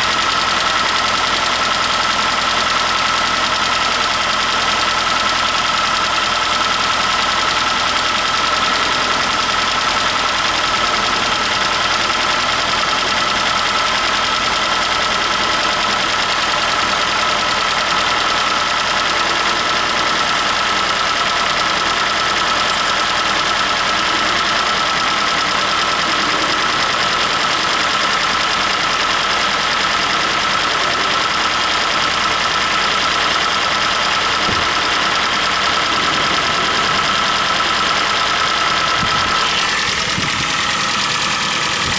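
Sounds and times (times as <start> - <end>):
car engine idling: 0.0 - 41.9
engine knocking: 0.0 - 41.9.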